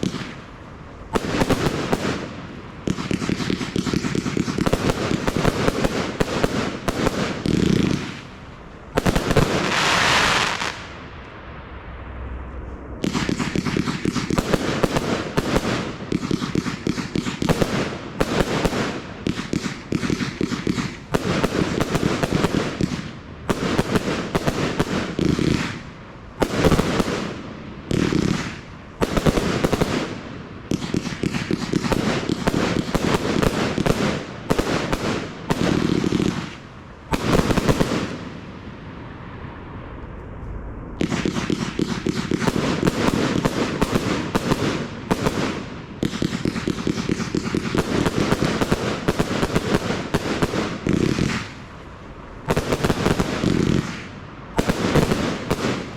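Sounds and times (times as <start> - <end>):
firework cake bangs and crackle: 0.0 - 11.0, 13.0 - 38.6, 41.0 - 55.9.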